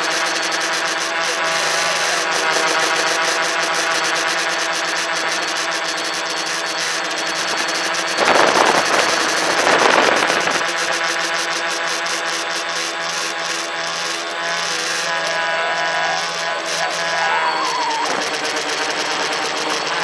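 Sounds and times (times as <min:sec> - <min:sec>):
drone propellers buzzing: 0:00.0 - 0:20.0.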